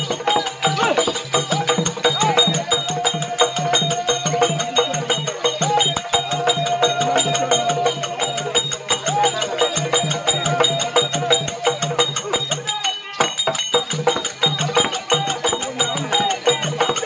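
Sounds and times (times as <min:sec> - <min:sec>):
fast drum beat: 0:00.0 - 0:17.0.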